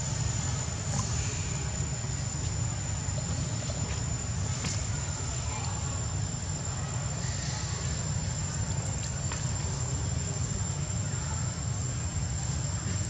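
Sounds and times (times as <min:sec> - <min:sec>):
high-pitched whine: 0:00.0 - 0:13.0.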